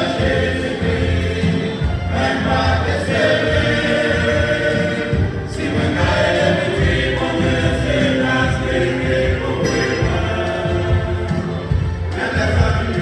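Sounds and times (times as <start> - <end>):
men's choir singing a cappella: 0.0 - 13.0.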